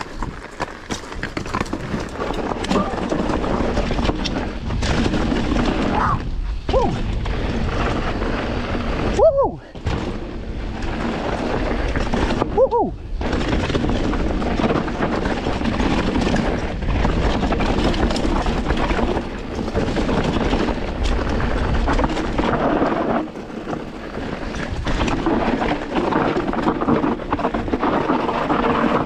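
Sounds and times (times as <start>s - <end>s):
bike rattling: 0.0s - 29.0s
tyres crunching over rough trail: 0.0s - 29.0s
wind buffeting microphone: 0.0s - 29.0s.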